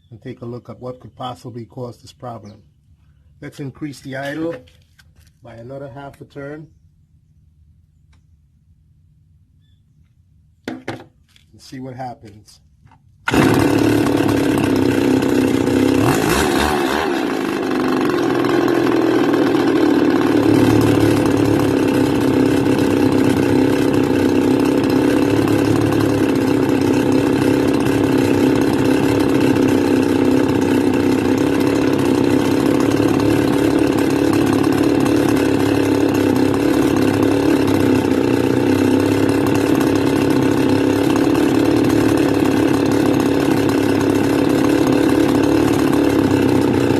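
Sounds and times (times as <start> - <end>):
brush cutter engine idling: 0.0 - 8.4, 9.0 - 46.9.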